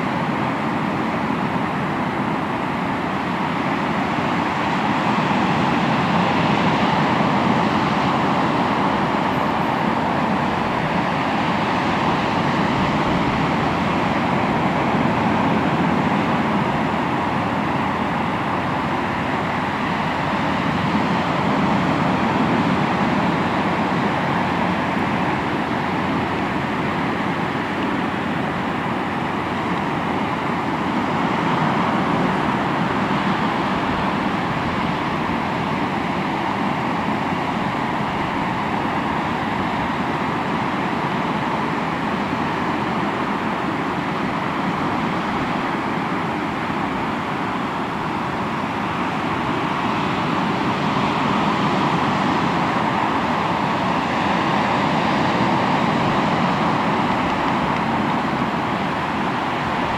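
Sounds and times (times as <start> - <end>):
sea waves breaking on shore: 0.0 - 59.9.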